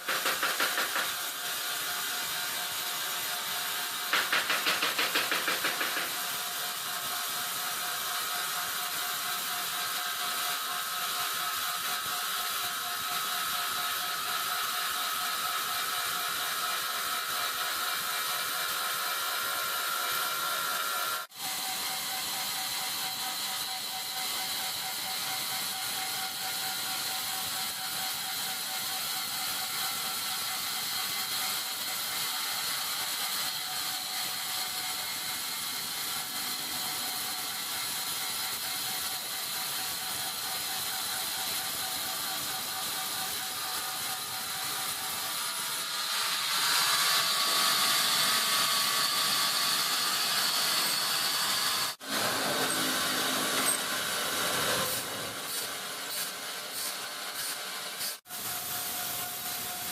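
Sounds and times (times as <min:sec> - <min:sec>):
sawmill saw machinery running: 0:00.0 - 0:59.9.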